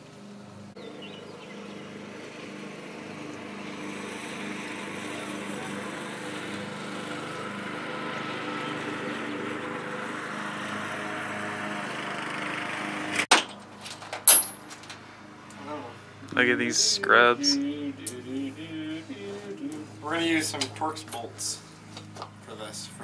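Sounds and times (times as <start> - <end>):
engine hum: 0.0 - 23.0.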